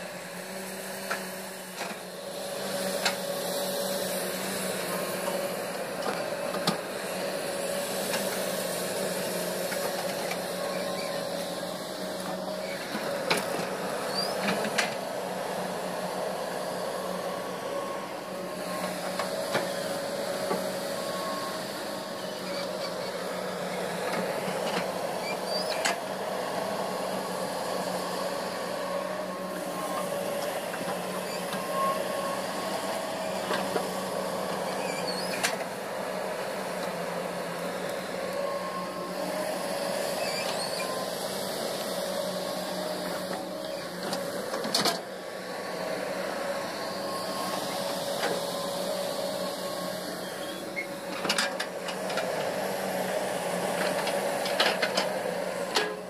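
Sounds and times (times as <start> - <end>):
excavator diesel engines running: 0.0 - 56.0.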